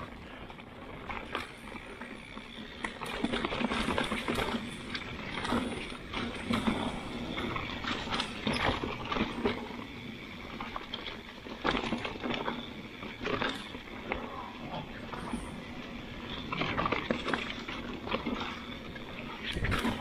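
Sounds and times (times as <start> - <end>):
bike rattling over bumps: 0.0 - 20.0.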